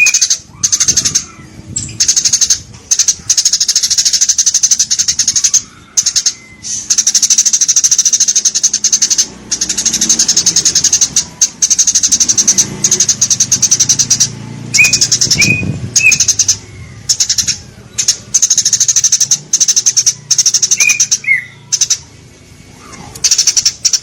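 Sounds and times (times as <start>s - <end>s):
sparrow chirping rapidly: 0.0s - 24.0s.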